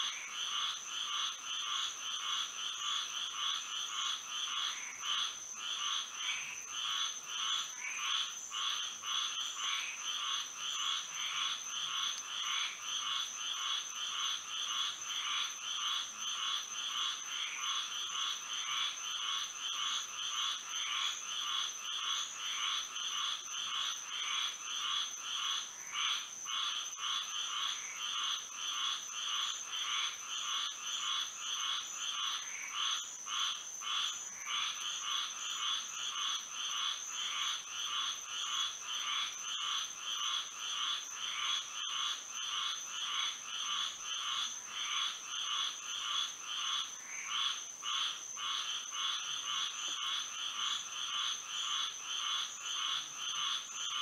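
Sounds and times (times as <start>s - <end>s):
frogs calling: 0.0s - 54.0s.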